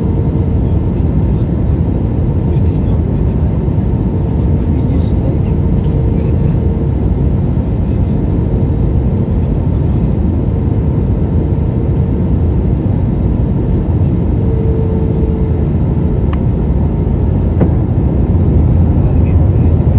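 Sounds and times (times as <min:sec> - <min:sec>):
aircraft cabin drone: 0:00.0 - 0:19.9.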